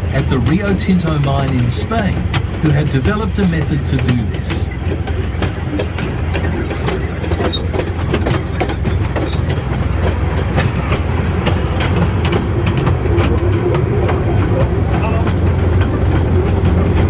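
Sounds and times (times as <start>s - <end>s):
carriages rattling and clacking: 0.0s - 17.0s
train engine rumble: 0.0s - 17.0s.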